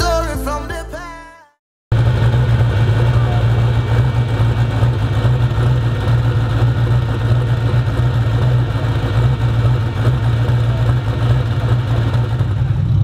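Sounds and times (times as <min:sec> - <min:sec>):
race car engine idling: 0:01.9 - 0:13.0.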